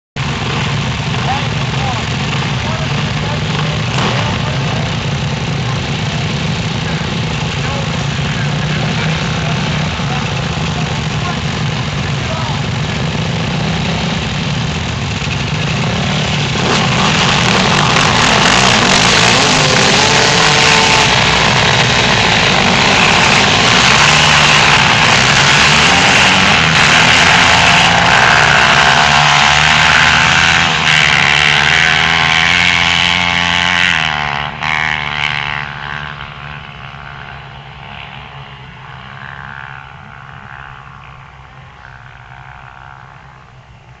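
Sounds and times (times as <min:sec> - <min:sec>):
dirt bikes revving: 0:00.2 - 0:44.0.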